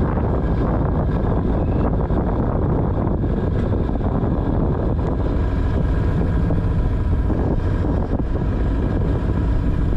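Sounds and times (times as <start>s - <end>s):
boat motor humming: 0.0s - 9.9s
wind buffeting microphone: 0.0s - 9.9s.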